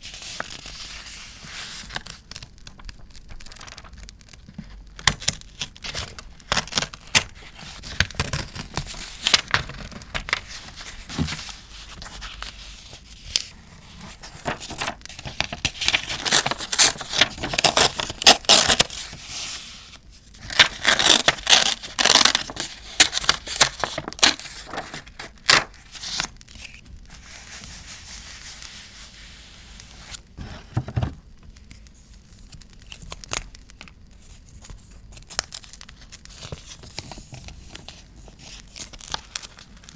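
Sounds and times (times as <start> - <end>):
paper crinkling and tearing: 0.0 - 30.8, 31.6 - 39.9.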